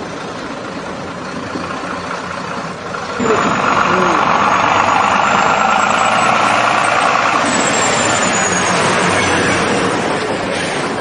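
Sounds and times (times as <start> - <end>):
diesel truck driving past: 0.0 - 11.0.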